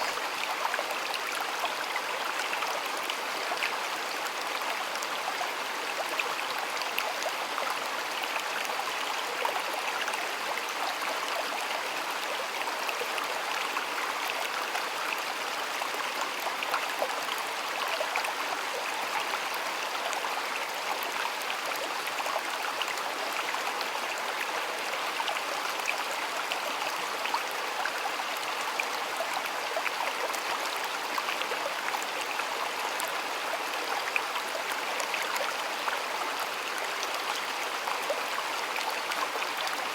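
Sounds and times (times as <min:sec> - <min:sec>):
shallow stream flowing over stones: 0:00.0 - 0:39.9.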